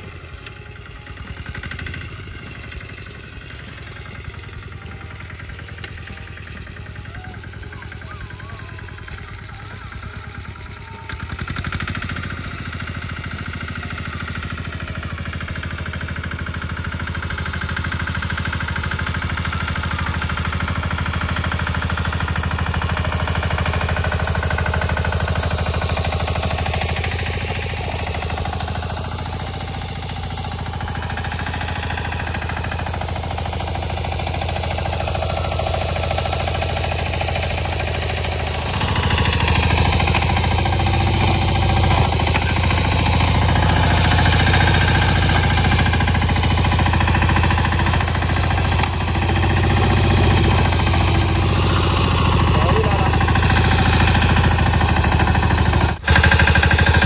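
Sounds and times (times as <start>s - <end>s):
engine running with low pulsing: 0.0s - 57.0s.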